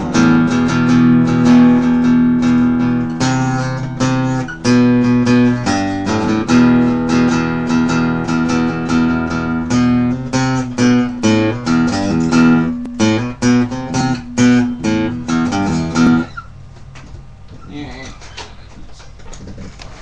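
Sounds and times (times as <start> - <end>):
guitar playing: 0.0 - 16.7.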